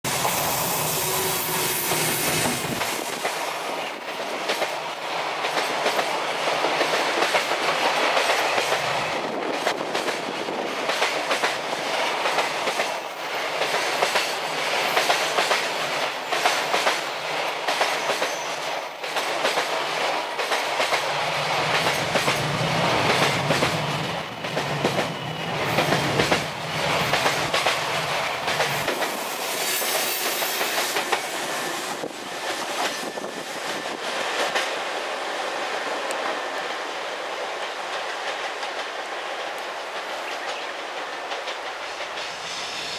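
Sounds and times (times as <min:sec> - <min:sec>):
electric locomotive passing: 0:00.1 - 0:42.9.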